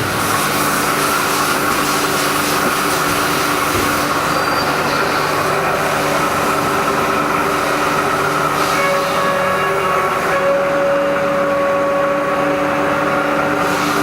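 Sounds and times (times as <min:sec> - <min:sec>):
milling machine running: 0:00.0 - 0:14.0
machine whining tones: 0:01.5 - 0:14.0.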